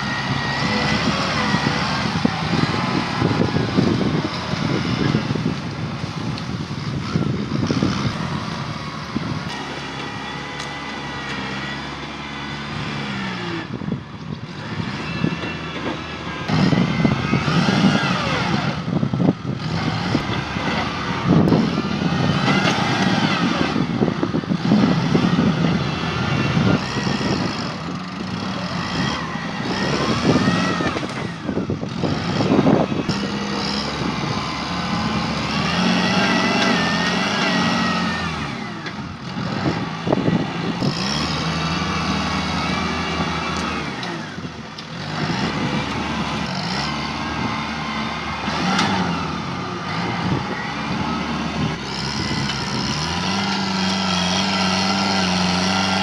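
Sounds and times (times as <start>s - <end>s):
tractor engine revving under load: 0.0s - 56.0s.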